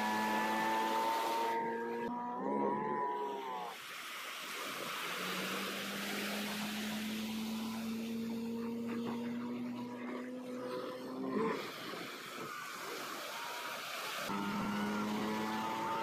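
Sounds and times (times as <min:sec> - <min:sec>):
speedboat engine running: 0:00.0 - 0:02.7, 0:04.2 - 0:16.0
surf and moving water: 0:00.0 - 0:16.0.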